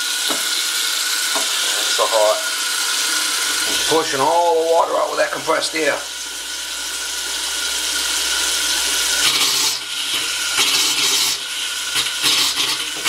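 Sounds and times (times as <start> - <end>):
faucet sputtering with air: 0.0 - 13.0.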